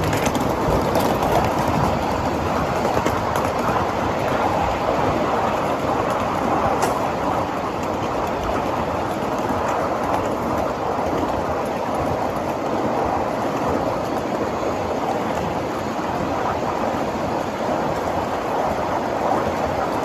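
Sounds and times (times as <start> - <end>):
train wheels rolling on rails: 0.0 - 20.0.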